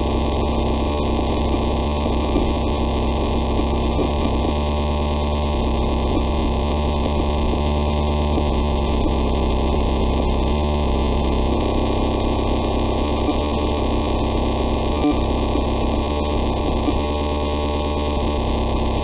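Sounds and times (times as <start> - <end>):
electrical static buzzing: 0.0 - 19.0.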